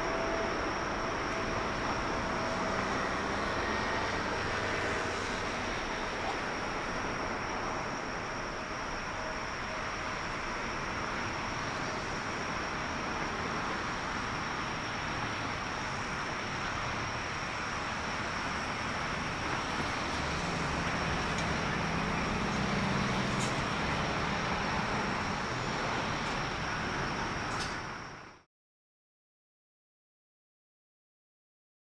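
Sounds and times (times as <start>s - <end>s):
jet engines at takeoff: 0.0s - 28.5s.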